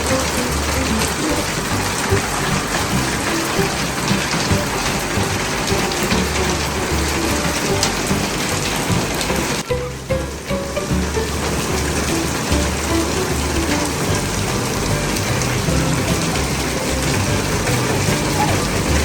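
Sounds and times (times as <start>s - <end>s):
faint background music with bass: 0.0s - 19.0s
rain pattering on surfaces: 0.0s - 19.0s.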